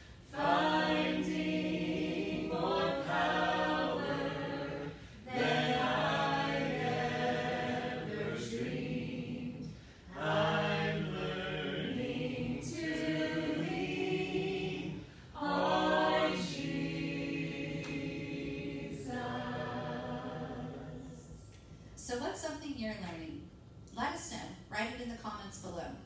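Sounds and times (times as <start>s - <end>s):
group singing a hymn a cappella: 0.0s - 21.7s.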